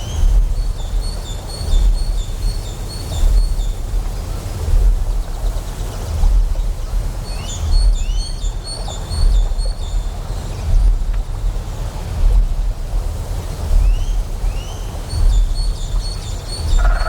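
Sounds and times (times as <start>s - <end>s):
deep generator hum: 0.0s - 17.0s.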